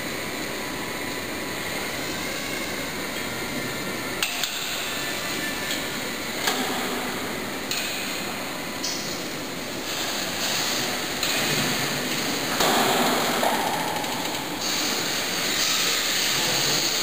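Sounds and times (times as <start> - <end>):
forklift running with hiss and hum: 0.0 - 17.0.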